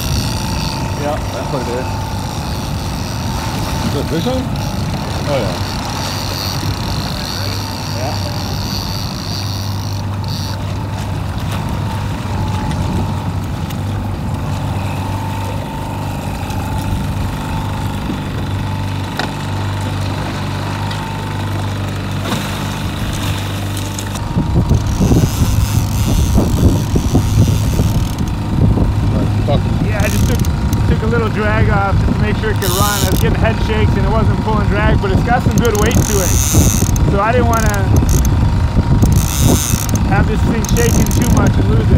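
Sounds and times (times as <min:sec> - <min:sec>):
boat engine humming: 0:00.0 - 0:41.9.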